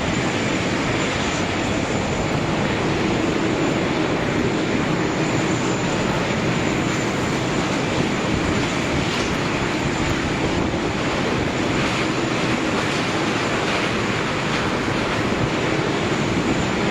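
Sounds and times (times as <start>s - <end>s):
jet engines roaring: 0.0s - 16.9s.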